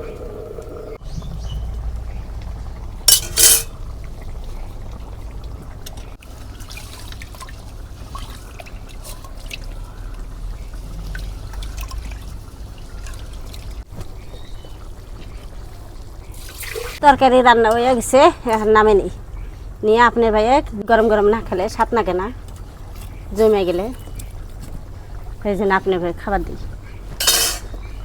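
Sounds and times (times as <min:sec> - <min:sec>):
curry bubbling in a pot: 0:01.0 - 0:17.0, 0:21.5 - 0:28.0.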